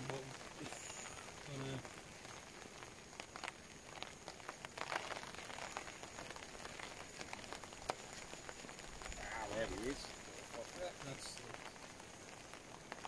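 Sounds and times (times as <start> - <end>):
raindrops tapping sharply: 0.0 - 13.0
steady rain: 0.0 - 13.0.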